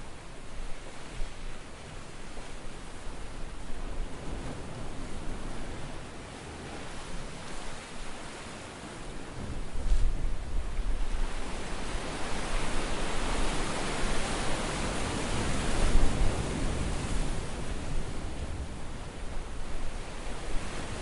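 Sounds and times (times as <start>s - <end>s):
sea waves washing against breakwater: 0.1s - 21.0s.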